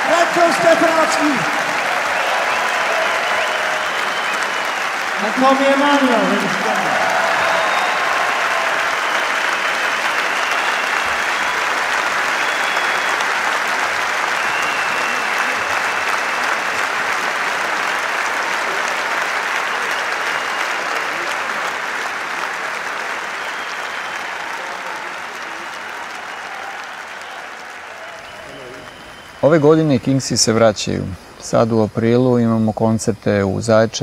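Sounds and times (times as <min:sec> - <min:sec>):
audience applauding: 0:00.0 - 0:30.5.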